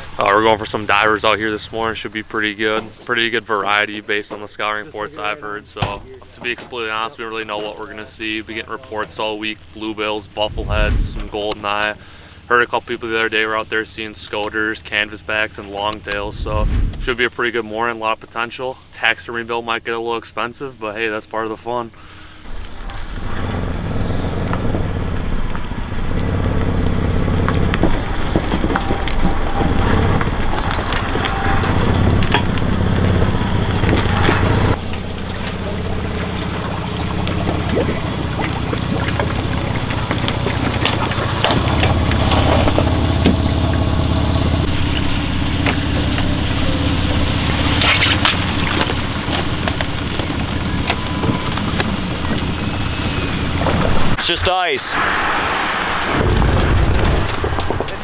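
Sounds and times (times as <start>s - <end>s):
engine hum: 0.0s - 17.6s, 21.9s - 58.0s.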